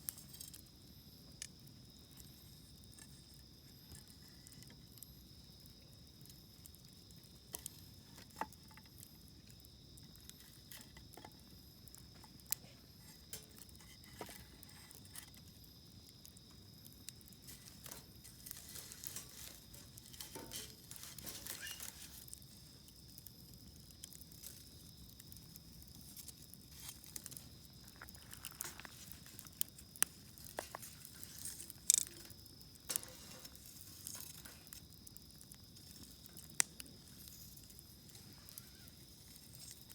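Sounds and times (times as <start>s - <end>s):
campfire crackling and popping: 0.0s - 39.9s
insects chirring: 0.0s - 39.9s.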